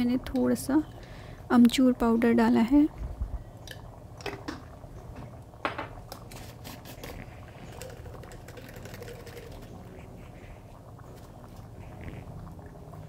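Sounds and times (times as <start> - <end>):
low steady hum: 0.0 - 13.0
thick gravy bubbling and popping: 0.0 - 13.0.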